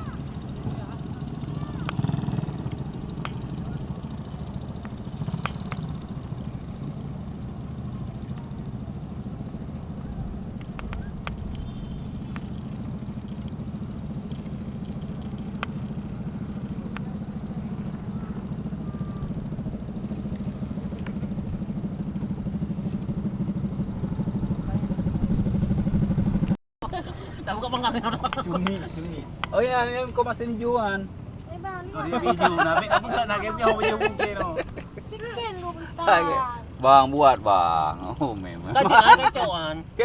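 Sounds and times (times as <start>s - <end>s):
small engine running: 0.0s - 40.0s.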